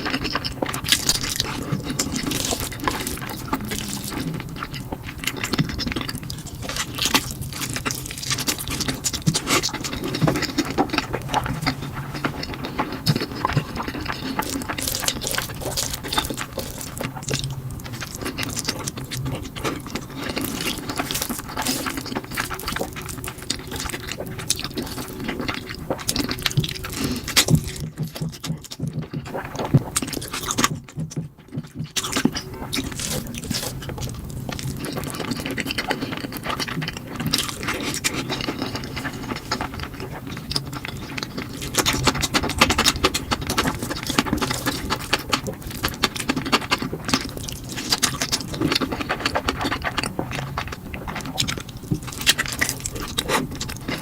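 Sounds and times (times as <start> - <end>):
chewing and slurping noodles: 0.0 - 54.0.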